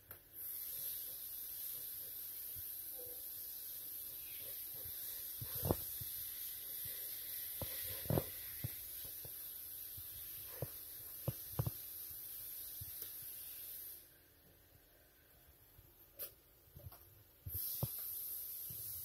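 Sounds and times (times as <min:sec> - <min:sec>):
steady high hiss: 0:00.1 - 0:19.0.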